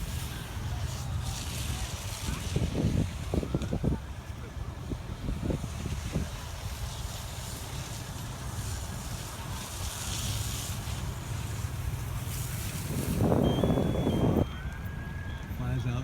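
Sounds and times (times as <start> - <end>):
wind buffeting microphone: 0.0 - 10.1, 10.8 - 16.0.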